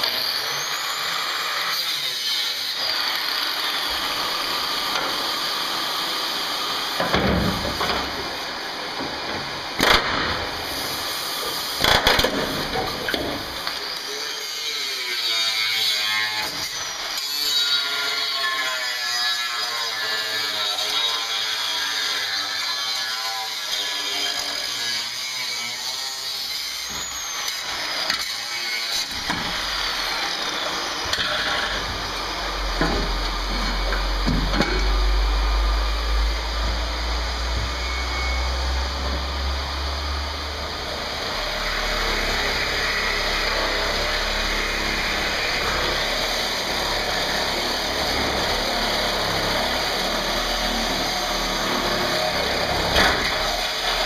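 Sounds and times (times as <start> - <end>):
angle grinder cutting steel: 0.0 - 54.0
reciprocating saw cutting sheet metal: 0.0 - 54.0.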